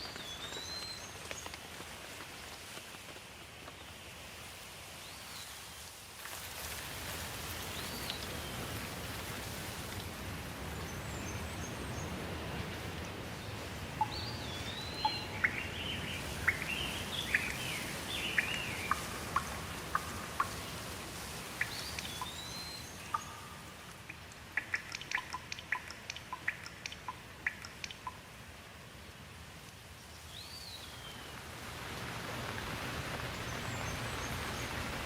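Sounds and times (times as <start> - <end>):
sharp rain ticks: 0.0 - 35.0
steady rain hiss: 0.0 - 35.0.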